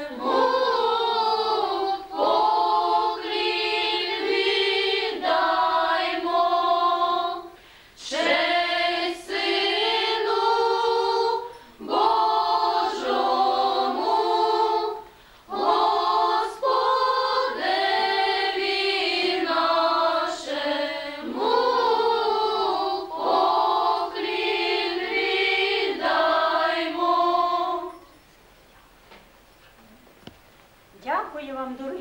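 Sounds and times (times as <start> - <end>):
girls singing a carol: 0.0 - 28.2.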